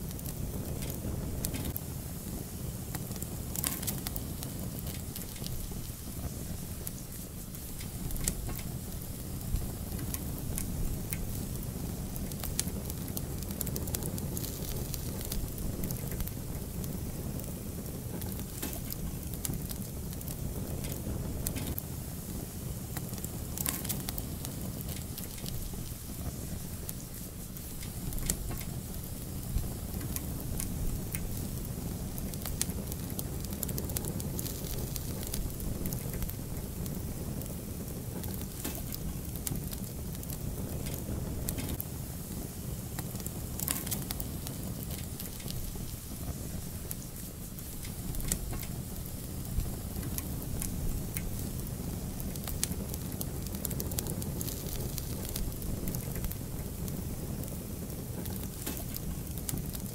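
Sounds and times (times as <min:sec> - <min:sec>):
fire pops and snaps: 0:00.0 - 0:59.9
low rumble of flames: 0:00.0 - 0:59.9
wood fire crackling: 0:00.0 - 0:59.9.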